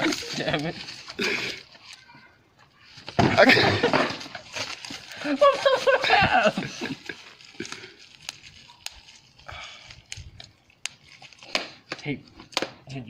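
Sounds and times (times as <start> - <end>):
bubble wrap crinkling: 0.0 - 12.6.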